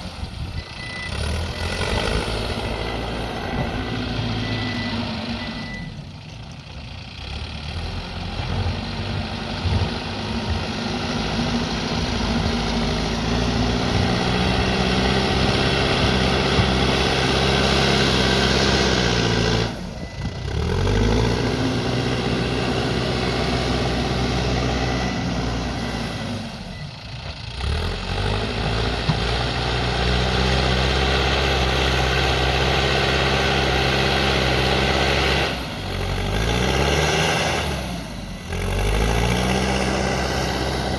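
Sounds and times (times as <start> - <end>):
diesel engine revving under load: 0.0 - 40.9.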